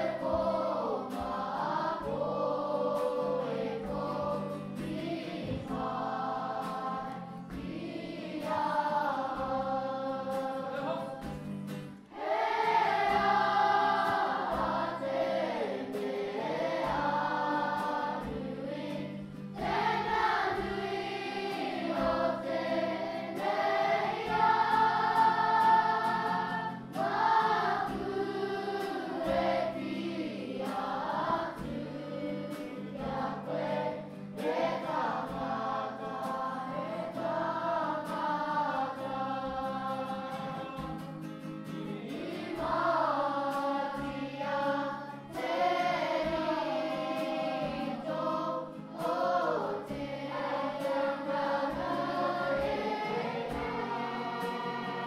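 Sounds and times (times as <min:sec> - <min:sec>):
group singing in unison: 0:00.0 - 0:55.0.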